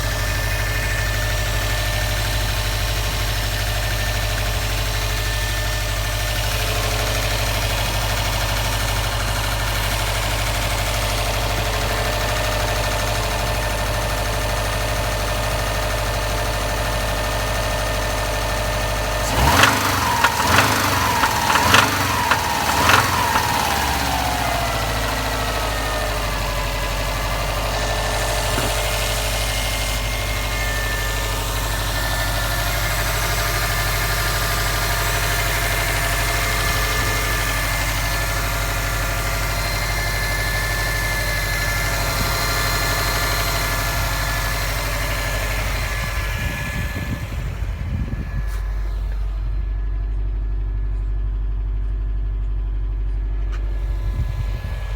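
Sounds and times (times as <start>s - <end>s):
car engine idling: 0.0s - 54.9s
engine knocking: 0.0s - 54.9s.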